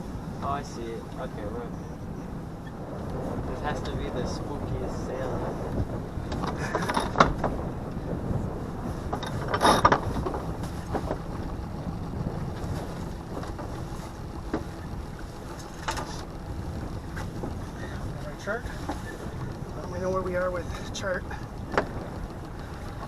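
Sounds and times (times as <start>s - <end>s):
low wind: 0.0s - 23.0s
water noise: 0.0s - 23.0s.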